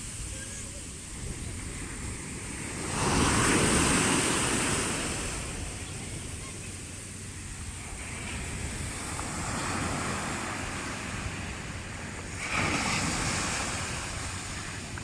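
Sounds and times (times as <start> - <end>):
sea waves washing ashore: 0.0 - 15.0.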